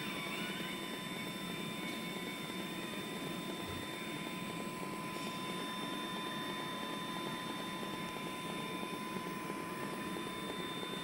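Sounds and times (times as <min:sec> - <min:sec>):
thin whines: 0:00.0 - 0:11.0
welding arc hum and hiss: 0:00.0 - 0:11.0.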